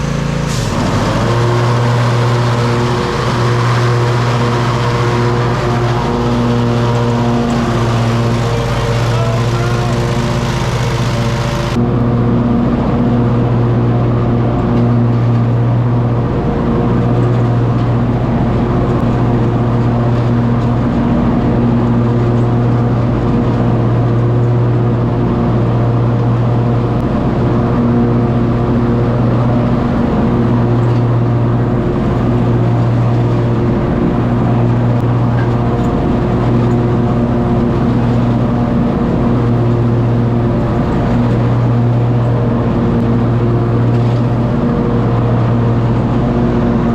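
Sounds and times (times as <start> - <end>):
riding lawn mower engine running: 0.0 - 46.9.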